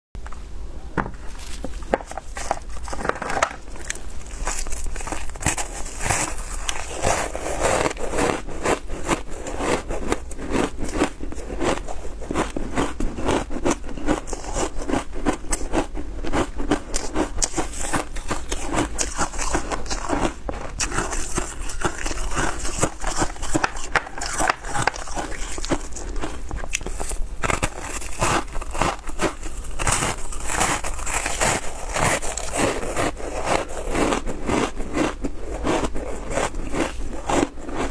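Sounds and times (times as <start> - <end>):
crunching and chewing ice: 1.4 - 37.9.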